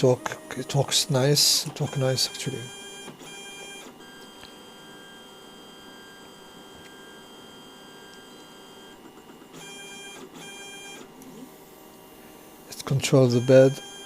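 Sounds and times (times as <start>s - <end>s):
printer whining: 0.0s - 14.0s.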